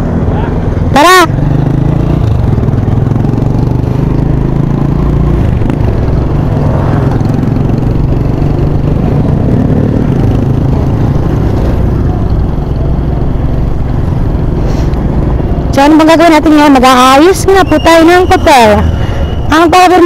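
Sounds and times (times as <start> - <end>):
motorcycle engine drone: 0.0 - 20.0.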